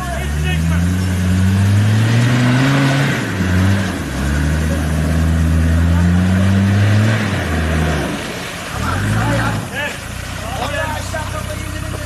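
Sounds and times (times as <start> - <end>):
diesel engine revving hard: 0.0 - 12.0.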